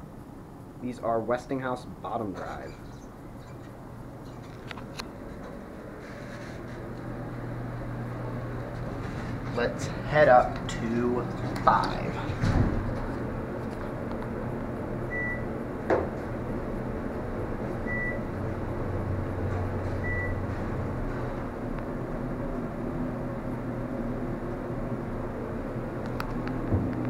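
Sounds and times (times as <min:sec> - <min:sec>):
elevator humming: 0:00.0 - 0:27.0.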